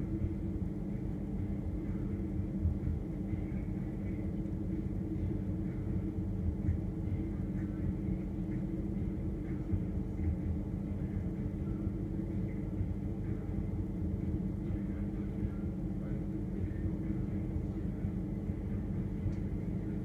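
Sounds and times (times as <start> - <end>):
refrigerator humming: 0.0 - 20.0.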